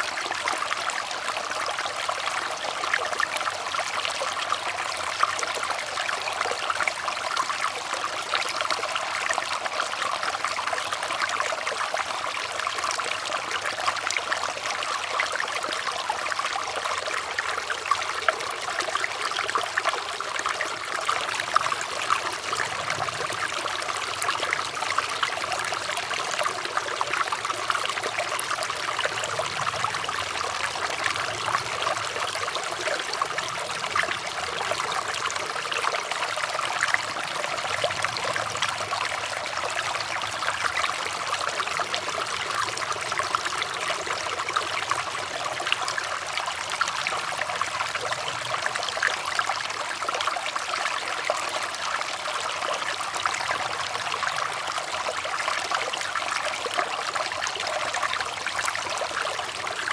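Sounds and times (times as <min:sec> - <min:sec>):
water trickling over stones: 0:00.0 - 0:59.9.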